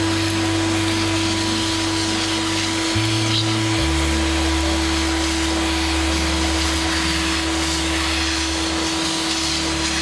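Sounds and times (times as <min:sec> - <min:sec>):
vacuum cleaner sucking sawdust: 0:00.0 - 0:10.0.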